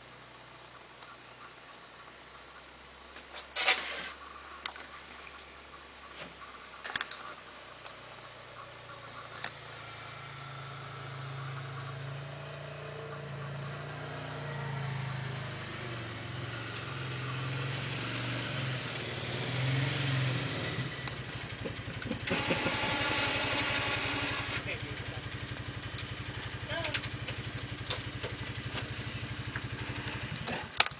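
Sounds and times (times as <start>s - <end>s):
snow plow vehicle engine: 3.6s - 30.9s.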